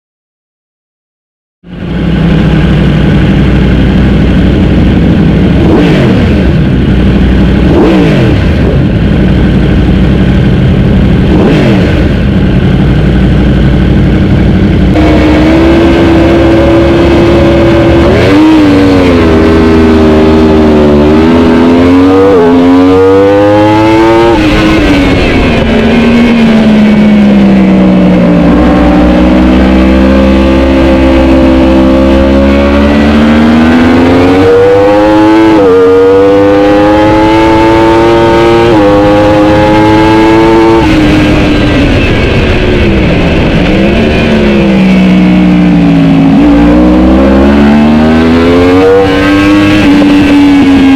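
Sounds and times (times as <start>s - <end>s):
engine running steadily: 1.6s - 50.9s
motorcycle engine accelerating: 1.6s - 50.9s.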